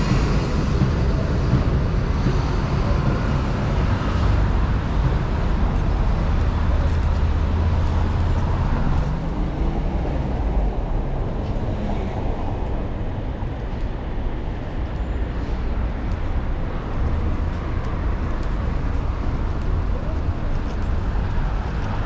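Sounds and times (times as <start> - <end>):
cars and buses passing: 0.0 - 22.0.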